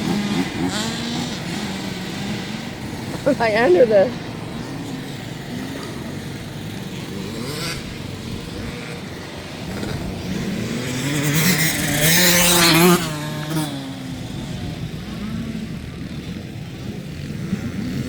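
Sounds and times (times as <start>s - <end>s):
dirt bike engine accelerating: 0.0s - 18.0s
other engines running: 0.0s - 18.0s.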